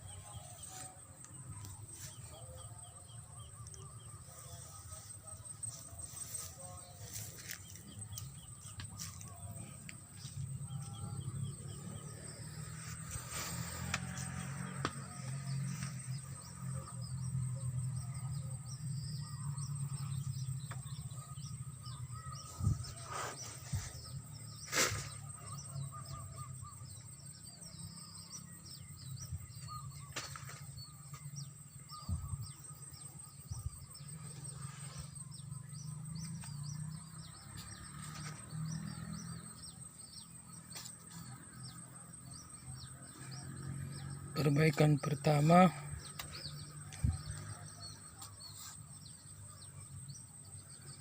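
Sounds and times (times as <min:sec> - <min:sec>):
bird chirps: 0:00.0 - 0:51.0.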